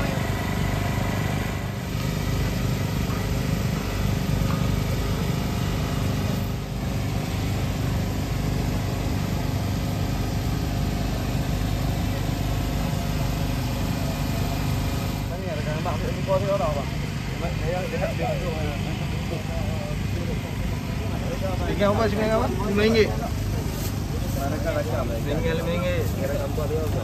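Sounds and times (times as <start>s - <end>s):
small engine humming: 0.0s - 27.0s.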